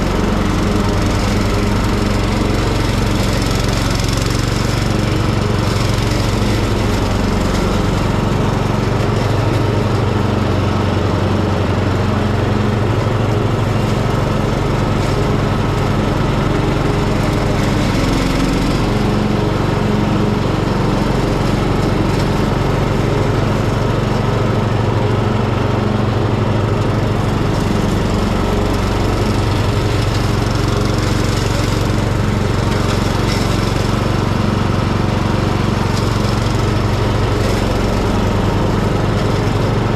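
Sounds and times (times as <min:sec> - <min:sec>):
mower blades spinning: 0:00.0 - 0:39.9
ride-on mower engine running: 0:00.0 - 0:39.9.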